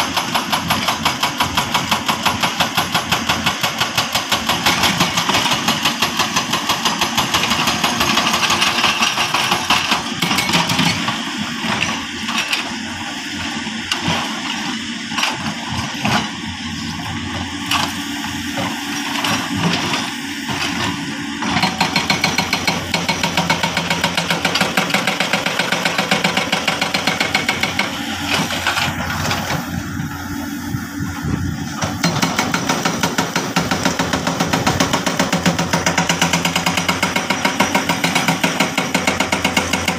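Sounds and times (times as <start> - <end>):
heavy diesel engines pulsing: 0.0 - 39.9.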